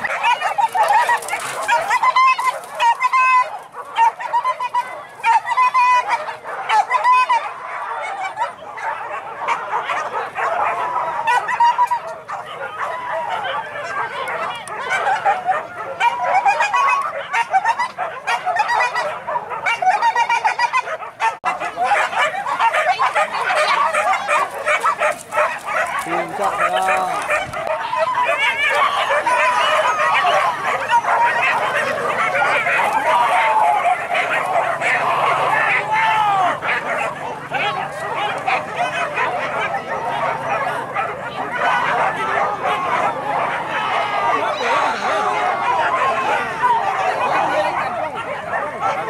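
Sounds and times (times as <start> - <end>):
dogs yelping and baying: 0.0 - 49.0.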